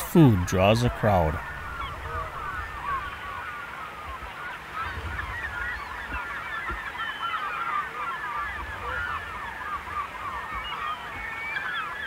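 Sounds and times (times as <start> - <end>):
birds chorus calling: 0.0 - 12.0.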